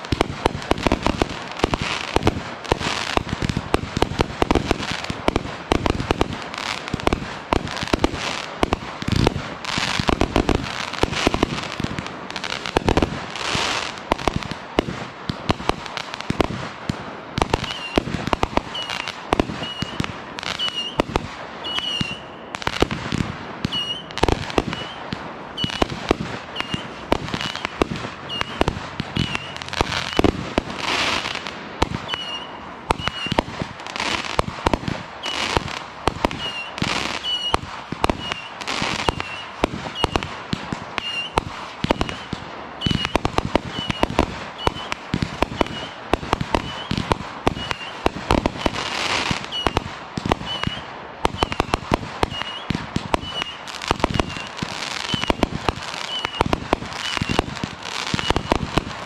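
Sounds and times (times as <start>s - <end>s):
fireworks bangs: 0.0s - 59.0s
fireworks crackling: 0.0s - 59.0s.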